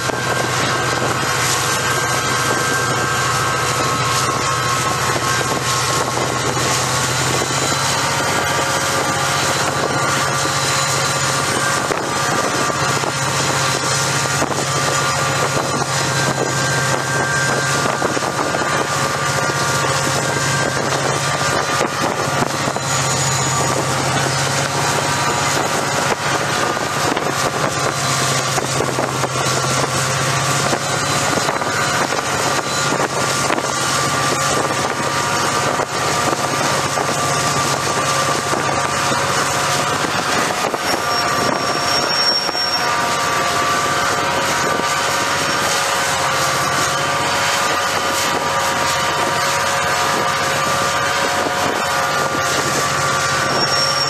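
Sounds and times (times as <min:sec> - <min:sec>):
locomotive engine drone: 0:00.0 - 0:54.0
steady whine: 0:00.0 - 0:54.0
wind on microphone: 0:00.0 - 0:54.0.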